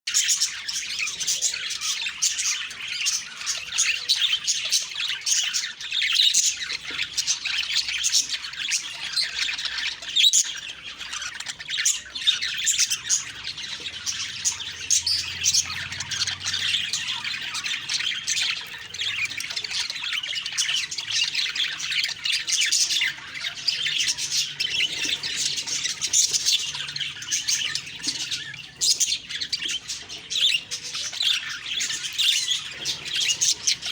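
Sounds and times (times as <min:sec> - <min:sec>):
budgerigars chirping and squawking: 0:00.1 - 0:33.9.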